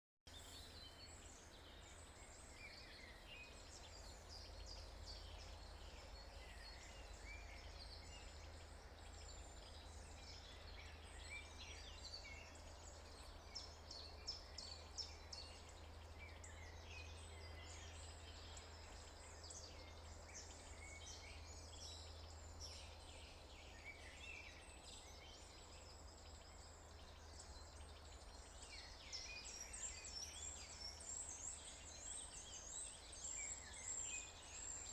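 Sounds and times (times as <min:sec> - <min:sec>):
small birds chirping and trilling: 0:00.3 - 0:34.9.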